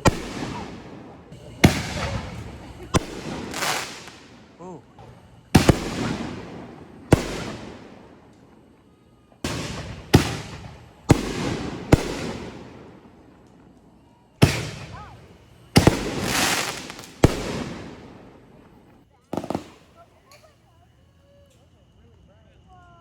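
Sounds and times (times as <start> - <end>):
fireworks bangs with rumbling echo: 0.0 - 20.0.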